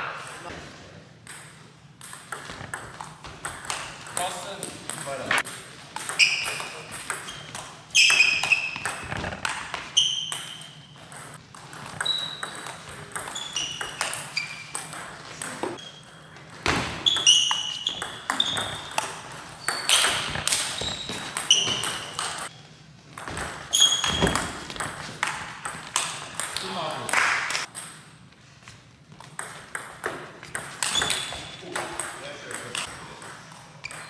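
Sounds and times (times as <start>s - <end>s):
table tennis ball hits and bounces: 1.2s - 22.5s, 23.2s - 28.1s, 29.2s - 34.0s.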